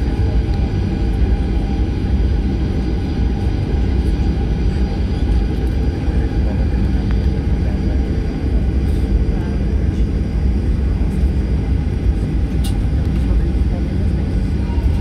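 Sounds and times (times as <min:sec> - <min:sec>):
aircraft cabin rumble: 0:00.0 - 0:15.0
faint engine whine: 0:00.0 - 0:15.0.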